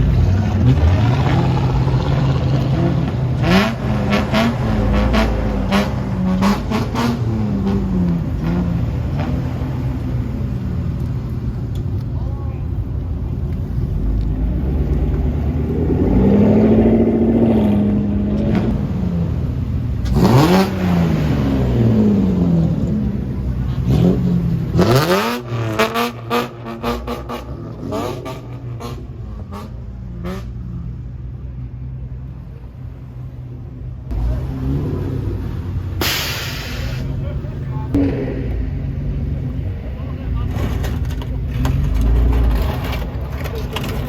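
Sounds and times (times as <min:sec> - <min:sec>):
car engine revving: 0:00.0 - 0:12.0, 0:13.6 - 0:31.1, 0:34.1 - 0:44.0.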